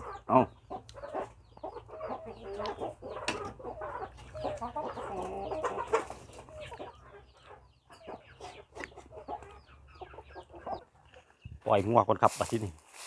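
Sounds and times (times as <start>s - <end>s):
chickens clucking: 0.0s - 12.2s.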